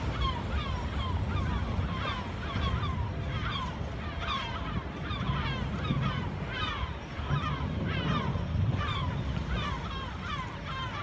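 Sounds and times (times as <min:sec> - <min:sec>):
birds squawking: 0:00.0 - 0:11.0
boat engine rumble: 0:00.0 - 0:11.0
water: 0:00.0 - 0:11.0.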